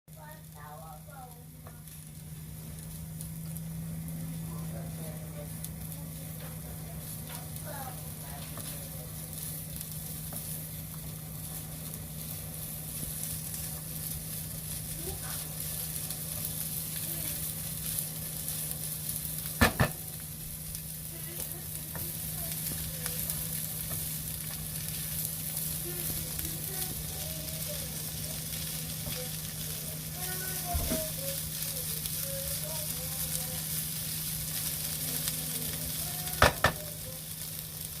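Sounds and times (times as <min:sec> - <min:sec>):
food sizzling in a frying pan: 0:00.1 - 0:38.0
low steady hum: 0:00.1 - 0:38.0.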